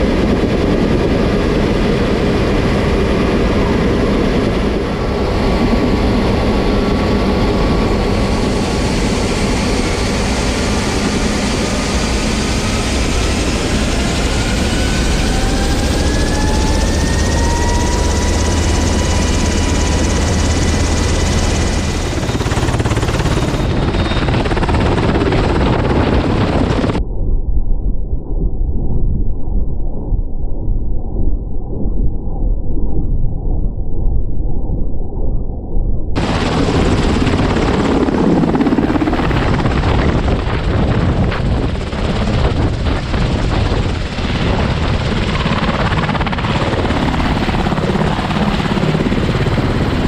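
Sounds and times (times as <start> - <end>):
helicopter engines and rotor: 0.0 - 27.0, 36.2 - 50.0
turbine whine: 0.0 - 33.8, 35.4 - 50.0.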